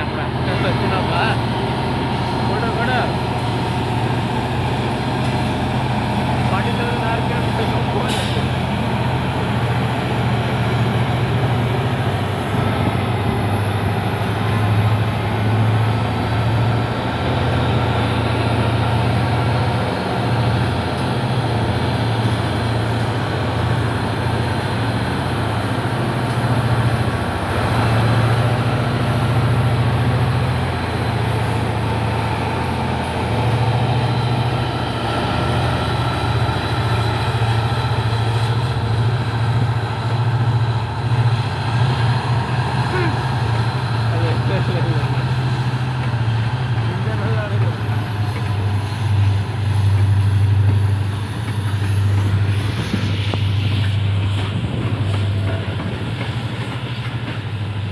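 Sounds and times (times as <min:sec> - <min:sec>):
locomotive engine droning: 0:00.0 - 0:57.9.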